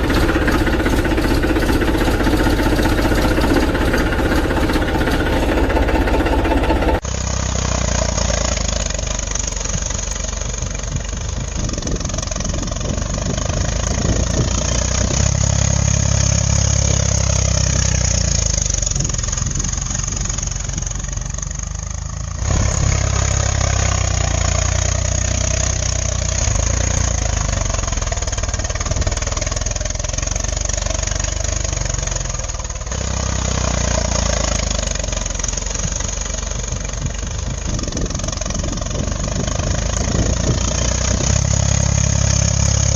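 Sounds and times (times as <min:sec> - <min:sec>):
engine rumbling: 0:00.0 - 0:42.9.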